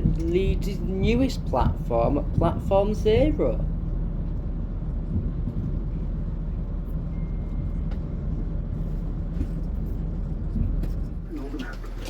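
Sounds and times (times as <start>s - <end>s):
train engine idling: 0.0s - 12.0s.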